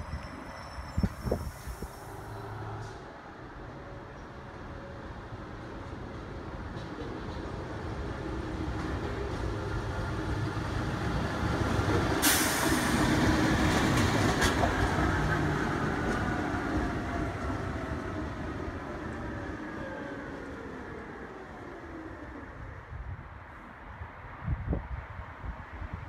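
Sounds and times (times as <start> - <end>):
diesel locomotive passing: 0.0 - 23.8.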